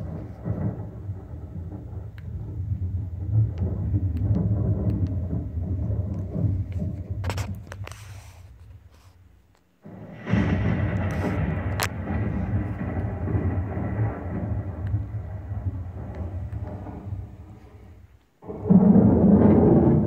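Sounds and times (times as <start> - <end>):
thunder rumble: 0.0 - 9.2, 9.8 - 20.0.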